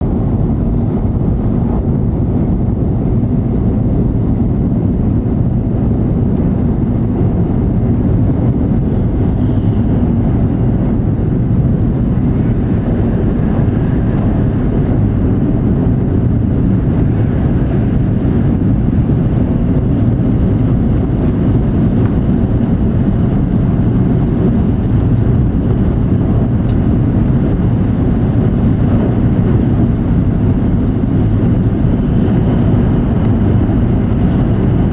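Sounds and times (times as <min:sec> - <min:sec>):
train cabin low rumble: 0:00.0 - 0:34.9.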